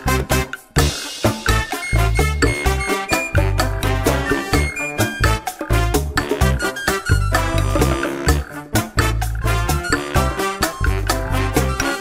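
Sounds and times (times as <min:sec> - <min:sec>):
upbeat music with bass and drums: 0:00.0 - 0:12.0.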